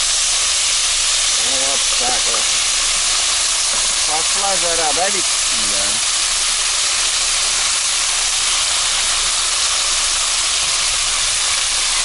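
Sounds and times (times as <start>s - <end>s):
stew sizzling in a pot: 0.0s - 12.0s.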